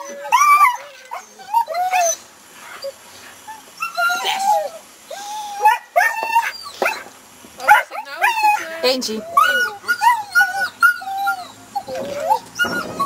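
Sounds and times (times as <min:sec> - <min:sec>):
dog whining and yelping: 0:00.0 - 0:13.0.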